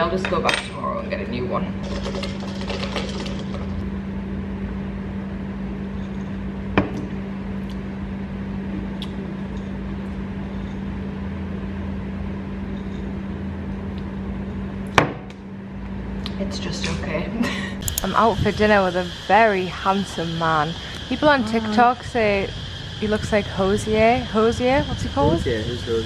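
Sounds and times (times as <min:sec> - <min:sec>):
low electric hum: 0:00.0 - 0:26.0.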